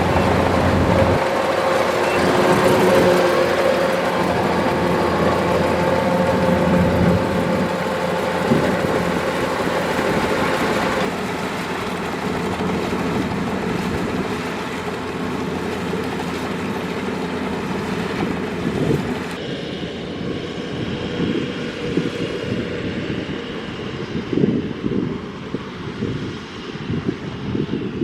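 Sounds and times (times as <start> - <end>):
combine harvester running: 0.0 - 27.8.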